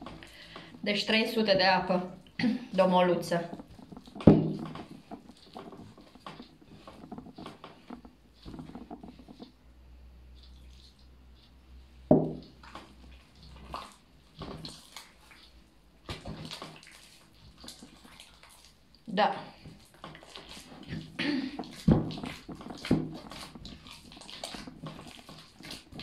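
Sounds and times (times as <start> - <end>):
hands kneading wet dough: 0.0 - 26.0.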